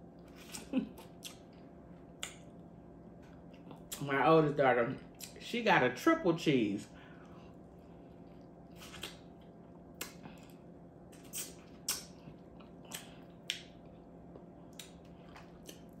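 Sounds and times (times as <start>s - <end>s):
chewing and crunching food: 0.0s - 4.1s, 7.0s - 16.0s
steady low hum: 0.0s - 16.0s.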